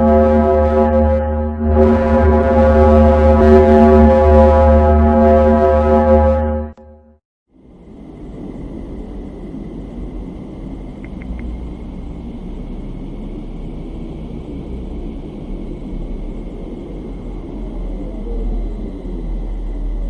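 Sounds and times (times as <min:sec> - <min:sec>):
deep steady rumbling: 0:00.0 - 0:20.0.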